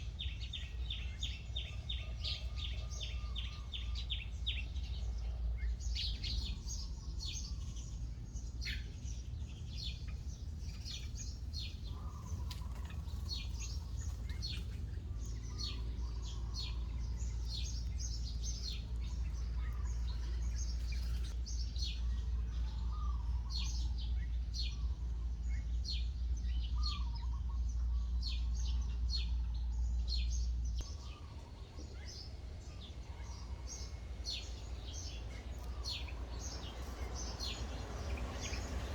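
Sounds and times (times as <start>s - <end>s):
birds chirping: 0.0s - 38.9s
low warbling bird calls: 0.0s - 38.9s
low rumble: 3.4s - 38.9s.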